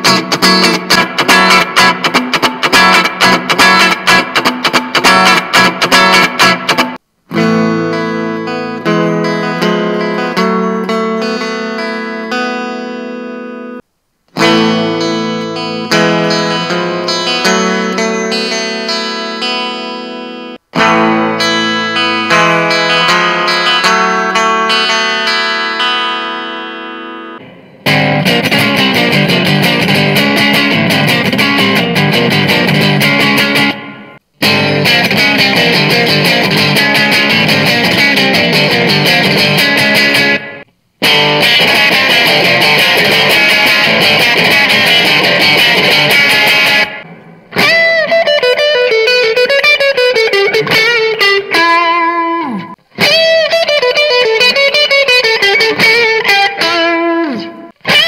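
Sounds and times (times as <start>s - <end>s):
electric guitar chords: 0.0s - 58.0s
electric guitar lead with bends: 0.0s - 58.0s.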